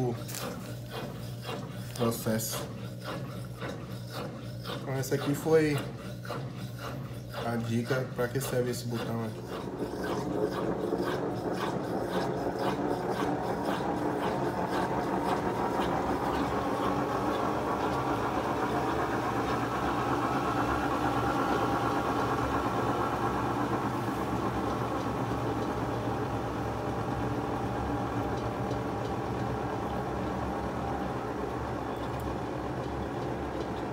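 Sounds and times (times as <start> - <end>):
washing machine drum spinning: 0.0 - 33.9.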